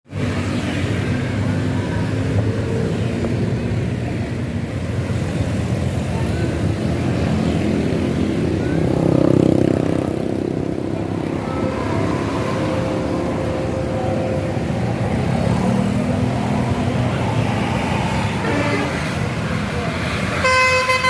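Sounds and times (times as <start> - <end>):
road traffic: 0.0 - 21.0
bus engines rumbling: 0.1 - 21.0.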